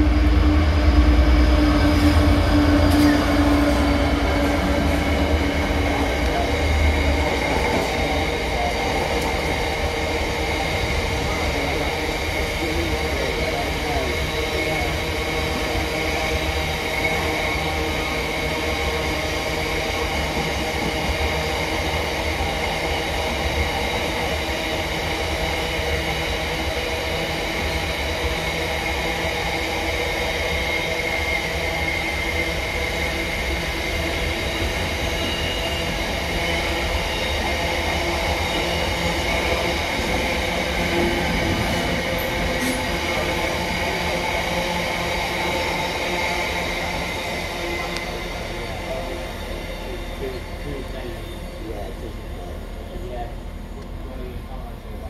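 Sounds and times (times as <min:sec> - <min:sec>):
diesel train engine rumbling: 0:00.0 - 0:55.0.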